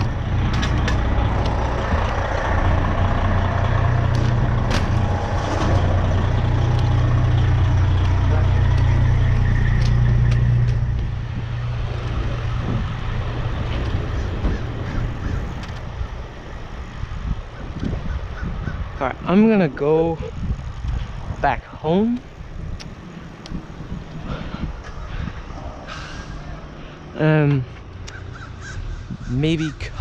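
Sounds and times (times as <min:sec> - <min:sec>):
heavy truck engine rumble: 0:00.0 - 0:30.0.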